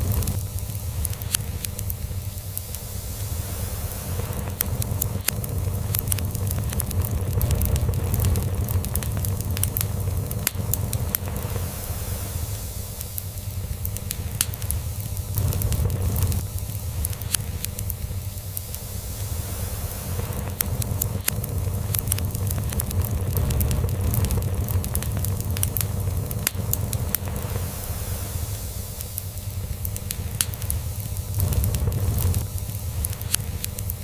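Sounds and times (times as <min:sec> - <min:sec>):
log fire crackling and popping: 0:00.0 - 0:34.0.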